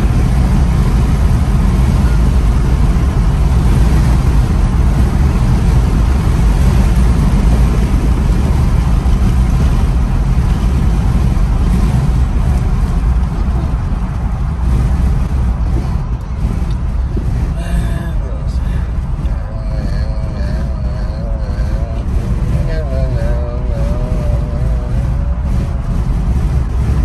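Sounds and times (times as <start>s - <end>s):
road and engine rumble in car: 0.0s - 27.0s.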